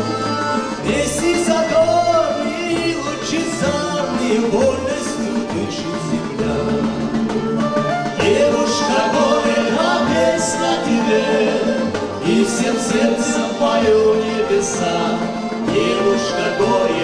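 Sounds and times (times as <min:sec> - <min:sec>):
folk instrument orchestra playing: 0:00.0 - 0:17.0.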